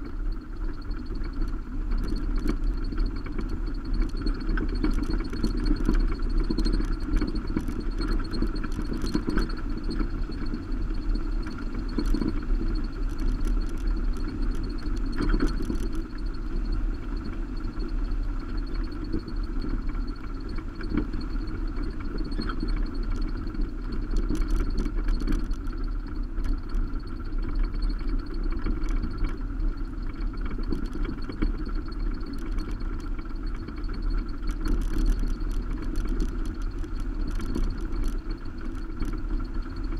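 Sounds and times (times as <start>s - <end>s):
wind: 0.0s - 39.9s
small clicks and knocks: 0.7s - 10.6s, 11.4s - 16.3s, 18.6s - 39.9s.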